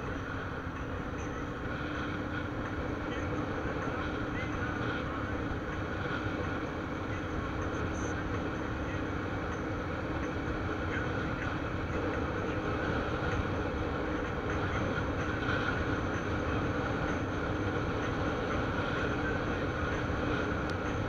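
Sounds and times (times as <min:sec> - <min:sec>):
motorcycle engine running: 0:00.0 - 0:21.0
steady hum: 0:00.0 - 0:21.0
wind and road noise: 0:00.0 - 0:21.0.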